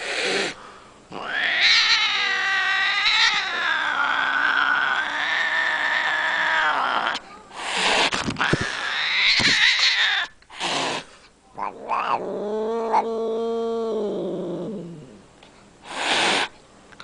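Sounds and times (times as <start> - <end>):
cat growling: 0.0 - 15.2
cat hissing: 0.0 - 15.2, 15.8 - 16.6.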